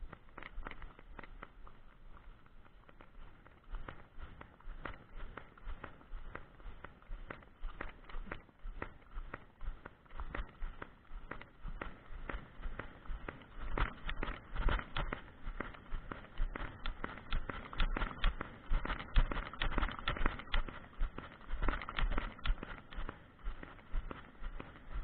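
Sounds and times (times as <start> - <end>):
horse hoofbeats: 0.0 - 25.0.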